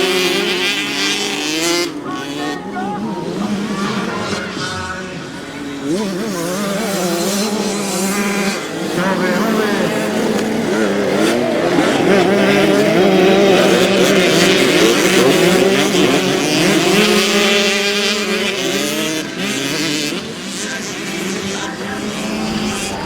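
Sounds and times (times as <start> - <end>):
motocross bikes revving past: 0.0 - 23.0.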